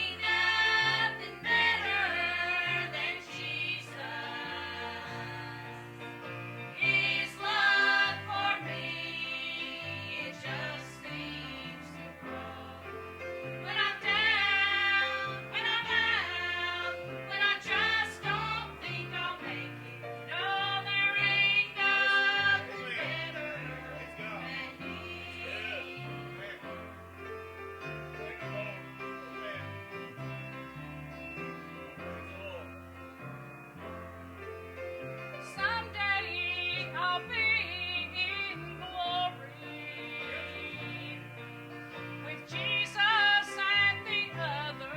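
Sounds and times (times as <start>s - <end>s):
gospel choir singing: 0.0s - 44.9s
instrumental accompaniment: 0.0s - 44.9s.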